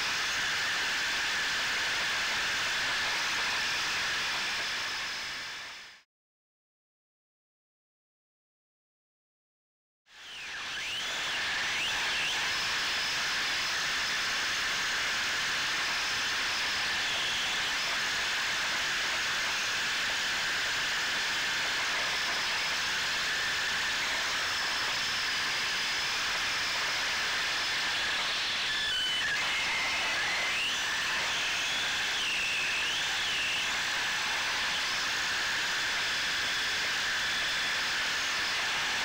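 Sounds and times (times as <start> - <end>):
rc car hissing run noise: 0.0 - 6.0, 10.1 - 39.0.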